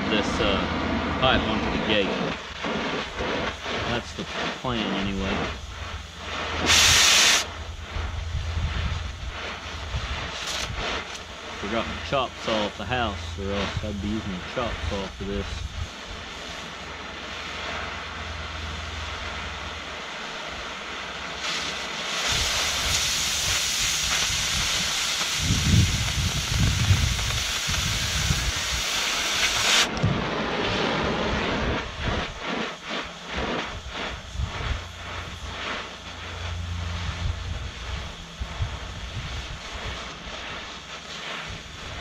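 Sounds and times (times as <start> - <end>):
cutting torch harsh hiss: 0.0 - 42.0
fluttering flame hiss: 0.0 - 42.0.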